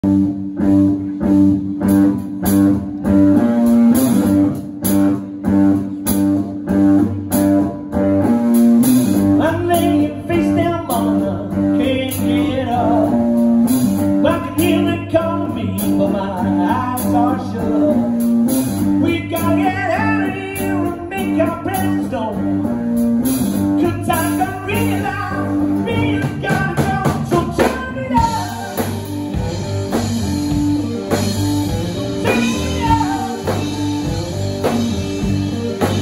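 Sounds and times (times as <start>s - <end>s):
blues band playing: 0.0s - 36.0s
wavering lead guitar line: 0.0s - 36.0s.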